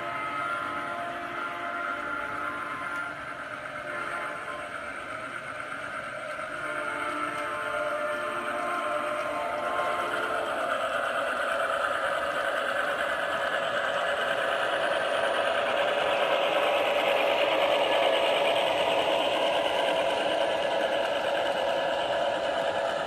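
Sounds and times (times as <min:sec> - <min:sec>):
model train motor whir: 0:00.0 - 0:23.0
wheels clattering on rails: 0:00.0 - 0:23.0.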